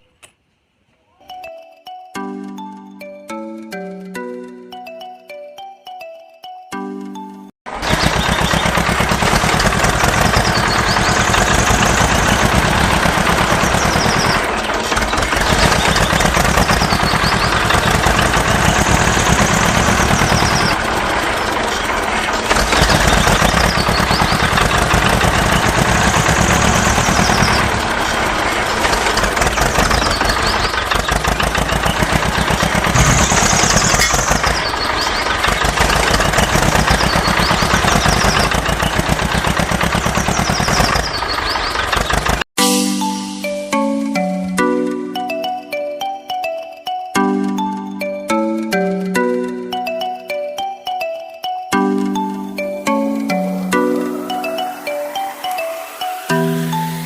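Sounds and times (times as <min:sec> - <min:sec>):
tractor diesel engine chugging: 0:07.7 - 0:51.1, 0:51.7 - 0:57.0.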